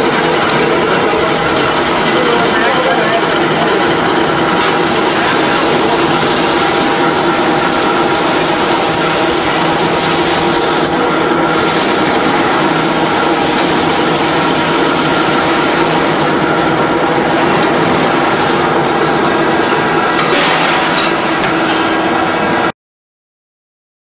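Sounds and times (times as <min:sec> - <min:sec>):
thread rolling machine hum and clatter: 0:00.0 - 0:22.7.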